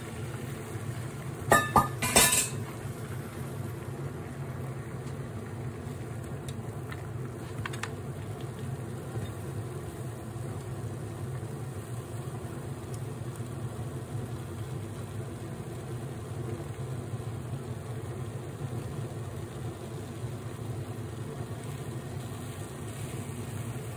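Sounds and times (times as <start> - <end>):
kitchen appliance humming: 0.0 - 23.9.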